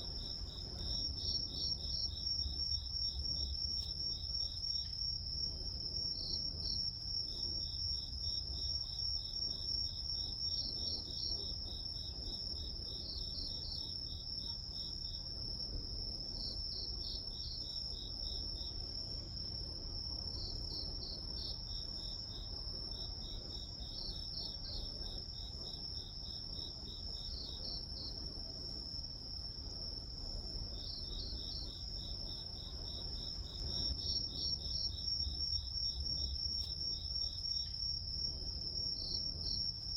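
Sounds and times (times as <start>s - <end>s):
insect continuous high trill: 0.0s - 39.9s
insects chirping in pulsed trains: 0.0s - 39.9s.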